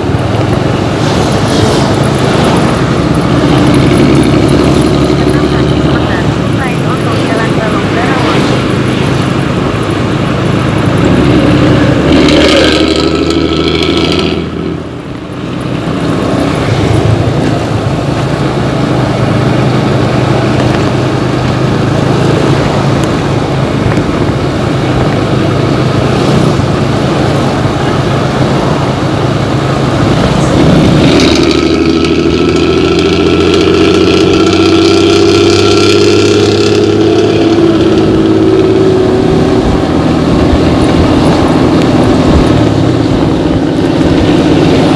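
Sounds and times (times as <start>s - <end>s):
diesel bus engine revving: 0.0s - 44.9s.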